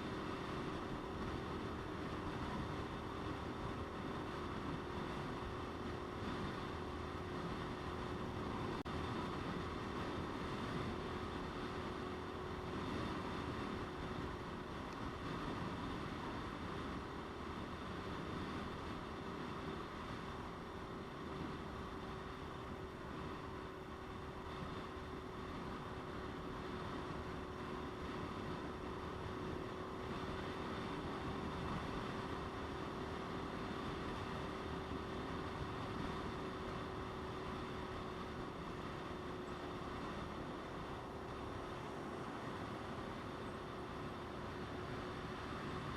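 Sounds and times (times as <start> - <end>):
motorcycle engine cruising: 0.0 - 45.9
wind rushing over microphone: 0.0 - 45.9.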